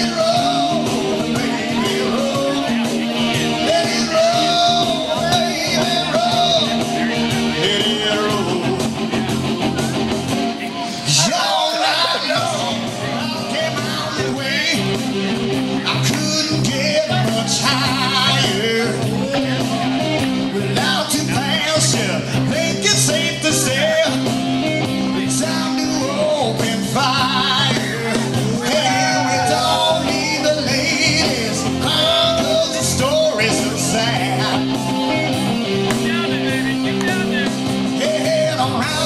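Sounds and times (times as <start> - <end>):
rock and roll keyboard music: 0.0 - 39.0.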